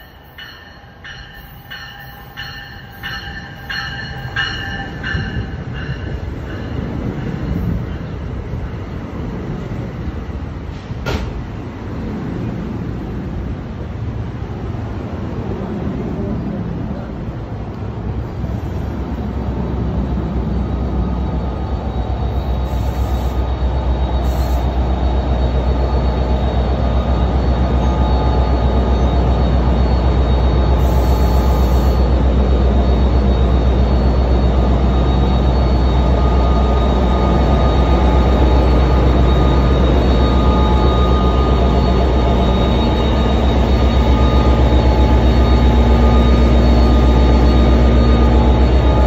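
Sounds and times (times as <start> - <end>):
diesel locomotive engine drone: 0.0 - 49.0.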